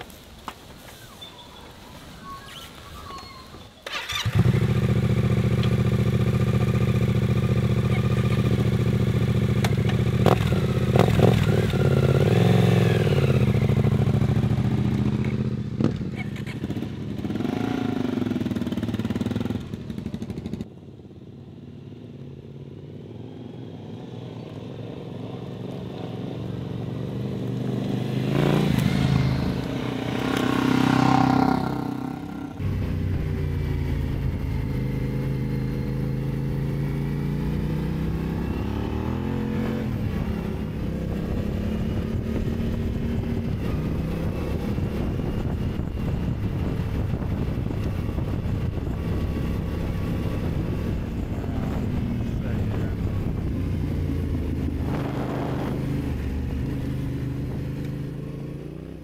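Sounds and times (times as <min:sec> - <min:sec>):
motorcycle riding on gravel: 0:00.0 - 0:20.8, 0:22.4 - 0:59.0
motorcycle engines running: 0:03.8 - 0:59.0
motorcycle passing by: 0:03.9 - 0:59.0.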